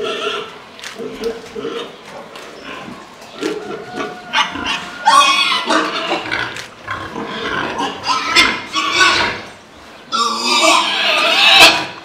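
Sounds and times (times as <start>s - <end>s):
pig squealing and grunting: 0.0s - 2.0s, 3.4s - 9.5s, 10.1s - 12.0s.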